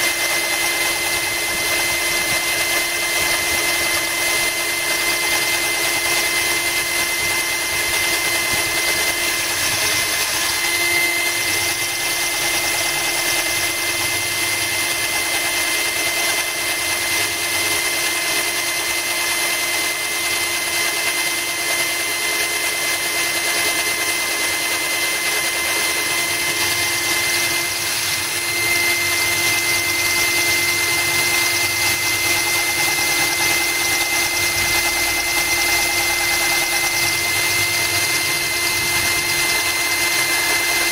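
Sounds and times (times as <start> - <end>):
cordless drill whining: 0.0 - 40.9.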